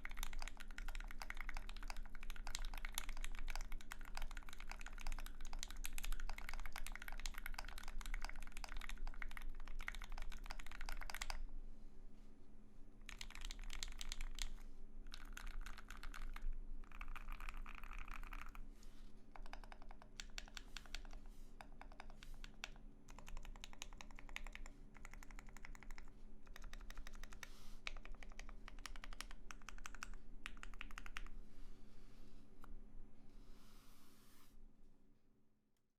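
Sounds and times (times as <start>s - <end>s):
typing on mechanical keyboard: 0.0s - 11.4s, 13.1s - 18.6s, 19.4s - 31.3s.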